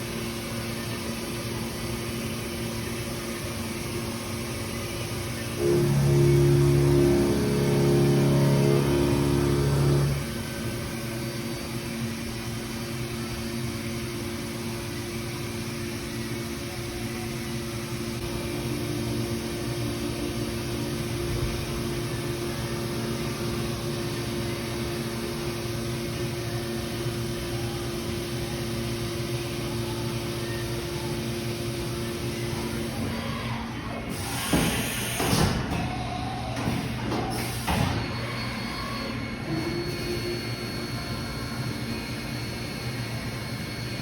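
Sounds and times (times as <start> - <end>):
loud tonal machine sound: 0.0 - 44.0
machine hum: 0.0 - 44.0.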